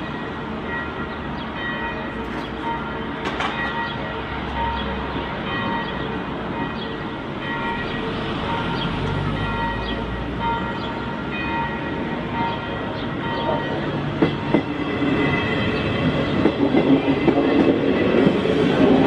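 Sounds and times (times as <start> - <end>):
level-crossing warning bell: 0.0 - 19.0.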